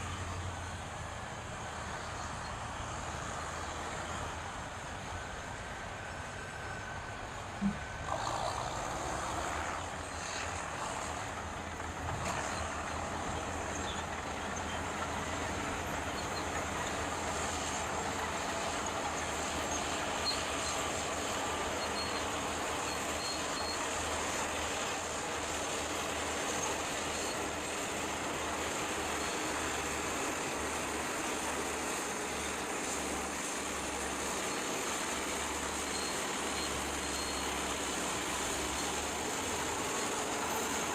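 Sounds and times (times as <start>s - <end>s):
heavy vehicle engine running: 0.0s - 40.9s.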